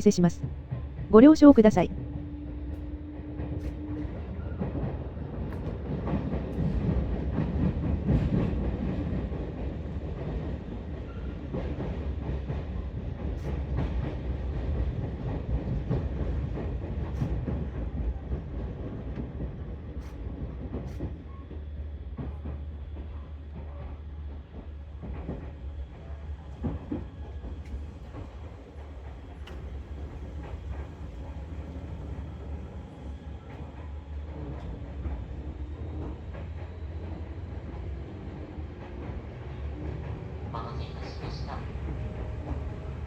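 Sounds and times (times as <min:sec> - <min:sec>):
train wheels rumbling on rail: 0:02.6 - 0:43.0.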